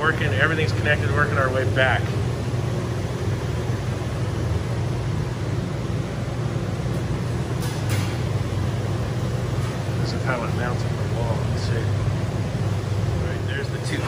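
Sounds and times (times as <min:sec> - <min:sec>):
ventilation machinery humming: 0:00.0 - 0:14.0.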